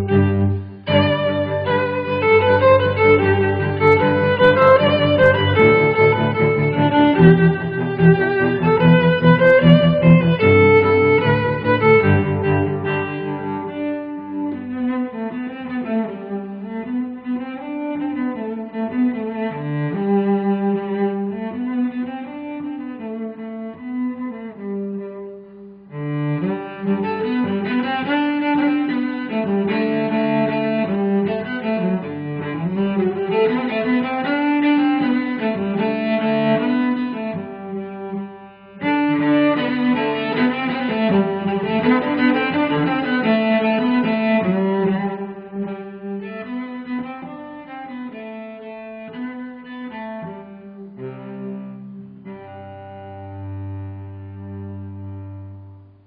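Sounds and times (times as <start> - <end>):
bowed string melody: 0.0 - 56.0.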